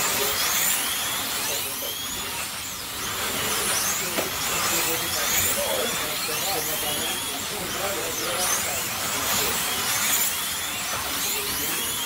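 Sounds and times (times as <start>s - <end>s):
slot car motors whining: 0.0s - 12.0s.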